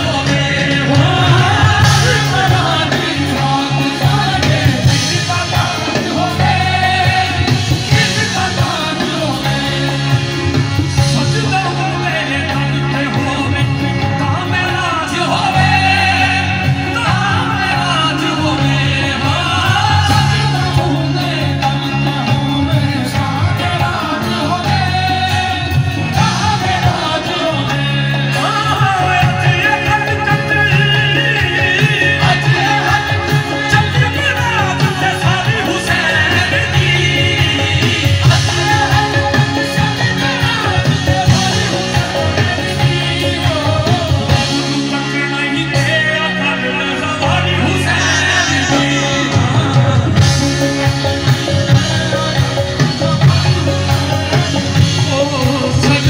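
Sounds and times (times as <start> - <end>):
qawwali singing with instruments: 0.0 - 56.0.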